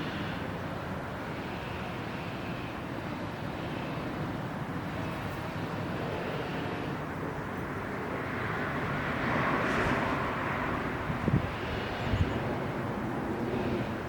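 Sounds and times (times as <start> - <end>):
outdoor rushing noise: 0.0 - 14.0.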